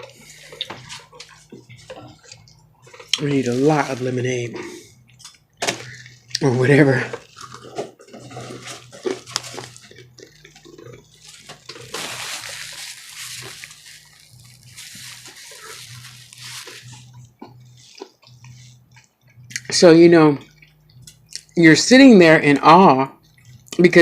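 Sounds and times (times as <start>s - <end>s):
chewing and lip-smacking: 0.0s - 3.2s, 4.9s - 6.5s, 7.1s - 19.8s, 20.4s - 21.6s, 23.2s - 23.8s.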